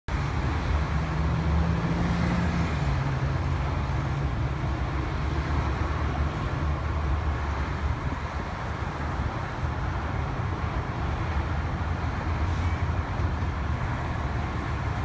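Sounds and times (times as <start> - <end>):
traffic rumble: 0.1 - 15.0.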